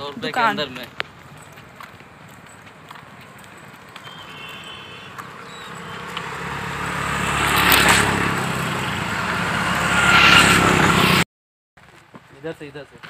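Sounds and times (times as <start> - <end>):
traffic passing: 0.0 - 11.3
vehicle passing on road: 0.0 - 11.3.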